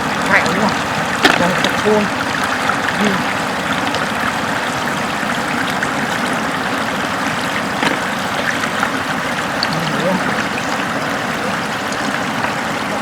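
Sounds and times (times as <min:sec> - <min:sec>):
floodwater flowing: 0:00.0 - 0:13.0
small water splashes: 0:00.0 - 0:13.0.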